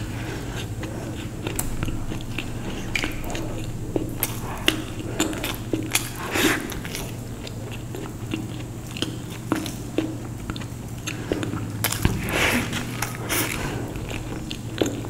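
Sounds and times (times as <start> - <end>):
person chewing and crunching: 0.0 - 15.0.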